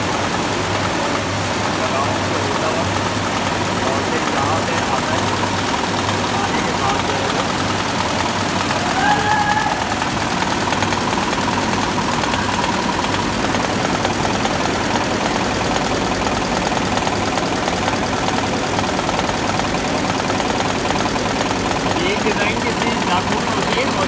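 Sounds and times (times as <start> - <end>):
embroidery machine clattering: 0.0 - 24.0.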